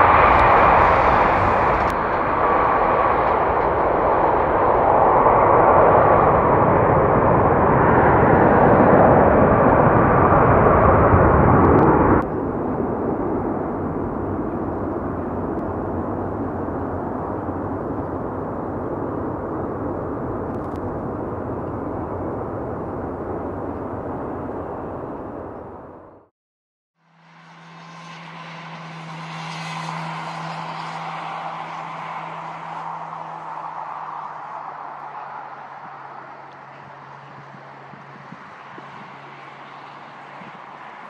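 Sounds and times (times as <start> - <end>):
jet engines roaring with whine: 0.0 - 26.3, 27.0 - 41.0.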